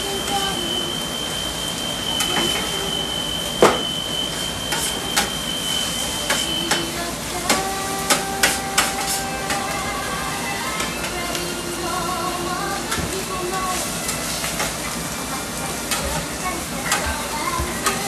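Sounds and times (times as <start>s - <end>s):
fried rice sizzling: 0.0s - 18.0s.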